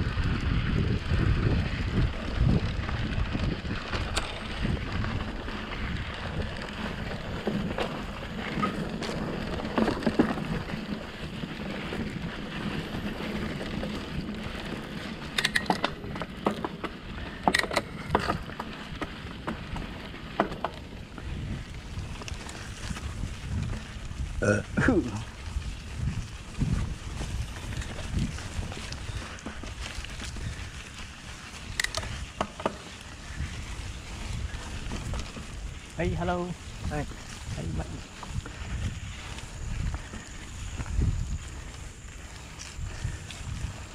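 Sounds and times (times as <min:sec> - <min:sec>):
bike rattling and clicking: 0:00.0 - 0:43.9
bike tyres on dirt: 0:00.0 - 0:43.9
wind buffeting microphone: 0:00.0 - 0:43.9.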